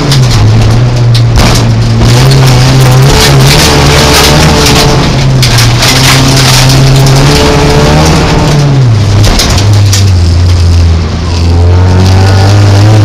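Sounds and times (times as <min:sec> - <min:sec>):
car engine running hard: 0:00.0 - 0:13.0
tyres on loose dirt: 0:00.0 - 0:13.0.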